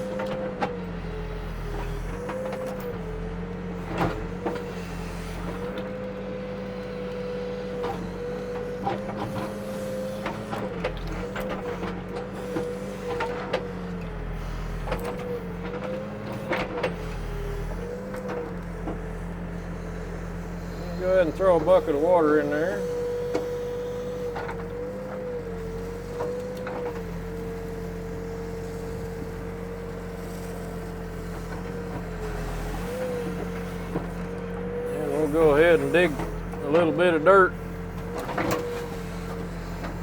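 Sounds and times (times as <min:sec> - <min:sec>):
backhoe engine and hydraulics whine: 0:00.0 - 0:40.0.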